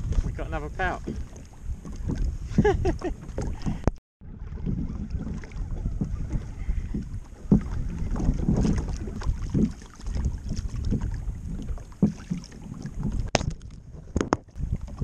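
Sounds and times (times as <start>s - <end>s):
water slapping against hull: 0.0s - 15.0s
wind buffeting microphone: 0.0s - 15.0s.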